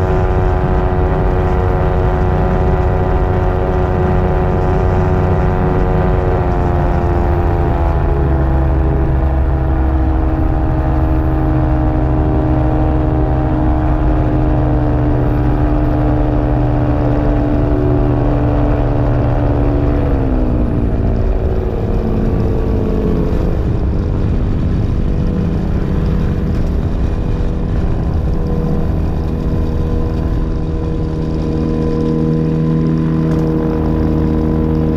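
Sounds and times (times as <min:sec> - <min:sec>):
ultralight aircraft engine and propeller: 0:00.0 - 0:34.9.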